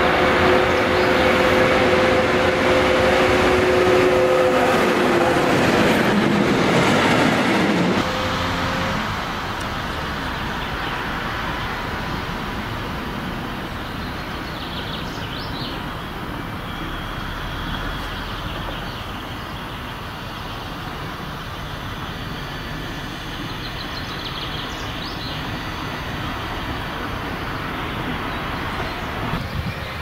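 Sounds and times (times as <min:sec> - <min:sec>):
diesel locomotive engine running: 0:00.0 - 0:30.0.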